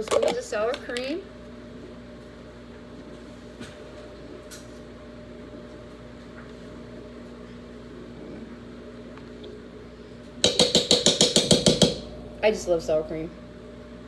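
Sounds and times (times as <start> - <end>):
appliance hum: 0.0 - 14.0.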